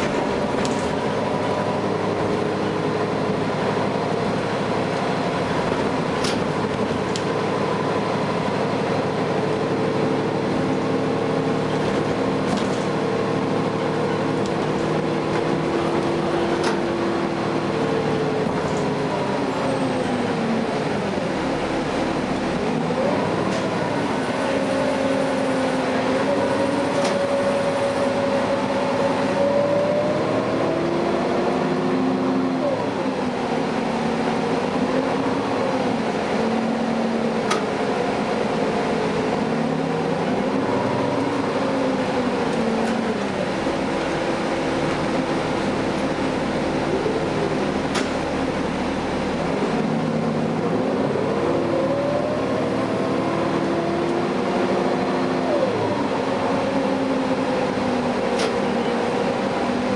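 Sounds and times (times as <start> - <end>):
bus engine drone with whine: 0.0 - 59.9.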